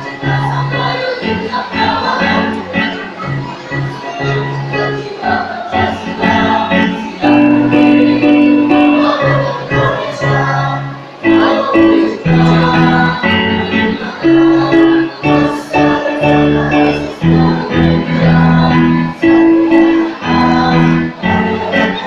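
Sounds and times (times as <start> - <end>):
choir singing: 0.0 - 22.0
musical accompaniment: 0.0 - 22.0.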